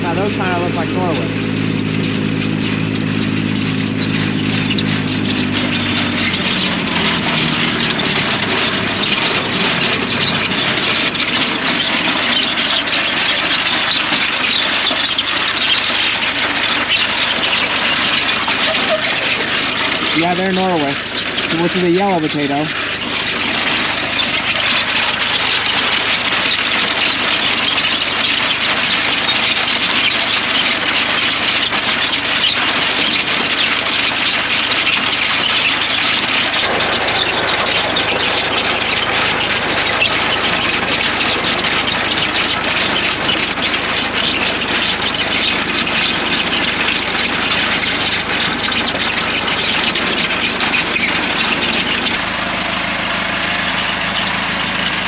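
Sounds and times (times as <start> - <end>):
potato digger rattling and clattering: 0.0 - 55.0
tractor running: 0.0 - 55.0.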